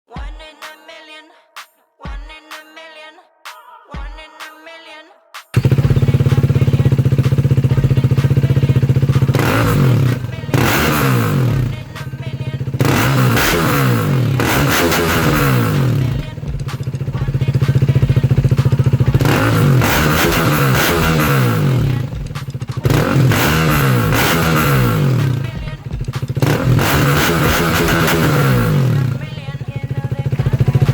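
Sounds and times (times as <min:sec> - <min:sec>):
motorcycle engine idling and revving: 0:05.6 - 0:30.9.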